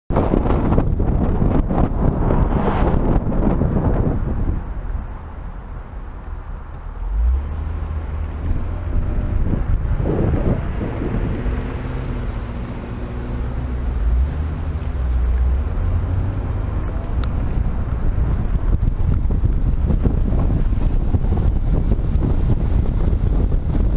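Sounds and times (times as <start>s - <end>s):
road rumble: 0.1s - 23.9s
wind noise on microphone: 0.1s - 23.9s
car engine hum: 0.2s - 23.9s.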